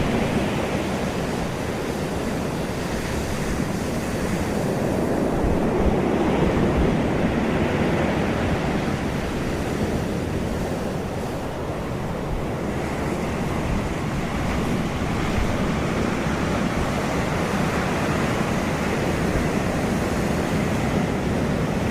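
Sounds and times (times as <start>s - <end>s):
sea surf: 0.0s - 21.9s
wind buffeting microphone: 0.0s - 21.9s.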